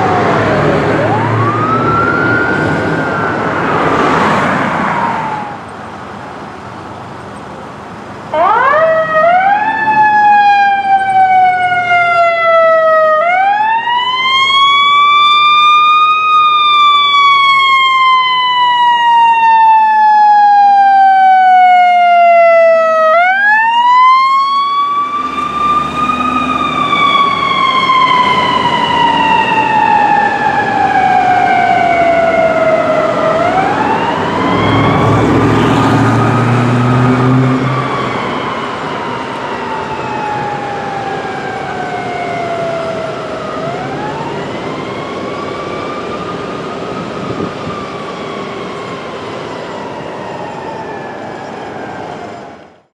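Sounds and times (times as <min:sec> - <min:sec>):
electronic siren wailing: 0:00.0 - 0:05.8, 0:08.3 - 0:52.9
traffic noise: 0:00.0 - 0:52.9.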